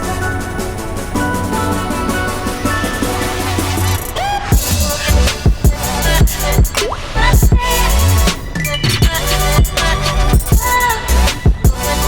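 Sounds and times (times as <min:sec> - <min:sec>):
hip hop music with heavy bass: 0:00.0 - 0:12.0.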